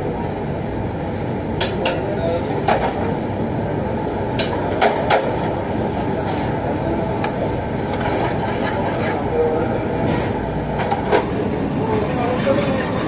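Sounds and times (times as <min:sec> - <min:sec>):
gas range and extractor roar: 0:00.0 - 0:13.0.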